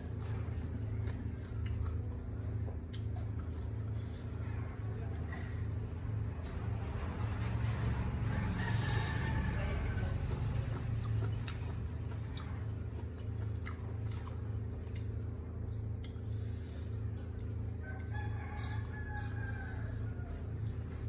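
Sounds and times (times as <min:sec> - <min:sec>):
low hum: 0:00.0 - 0:21.0
wet chewing and smacking: 0:00.0 - 0:21.0.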